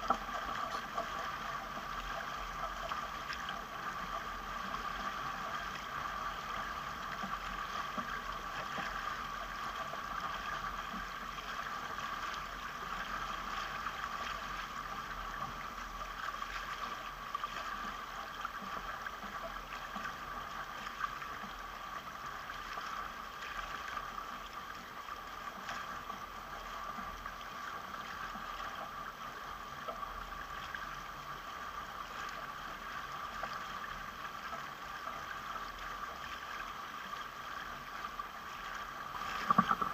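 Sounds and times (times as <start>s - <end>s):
water rushing along a hull: 0.0s - 39.9s.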